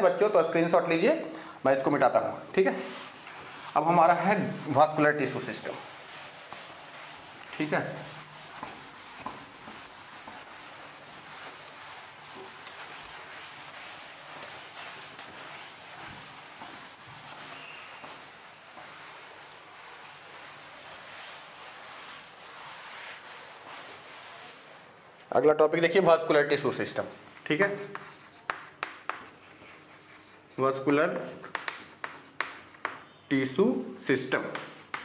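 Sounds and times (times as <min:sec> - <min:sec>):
cloth wiping a chalkboard: 0:02.6 - 0:25.1, 0:26.8 - 0:33.2.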